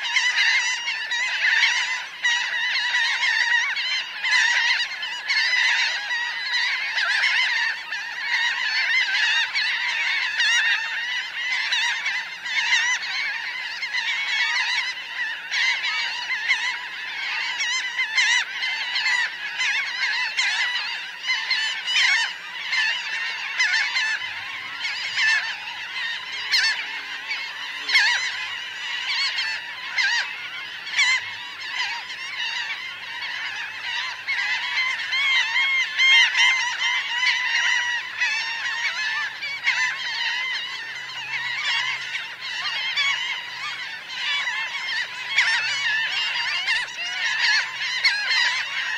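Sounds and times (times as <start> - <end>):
gulls calling: 0.0 - 48.9.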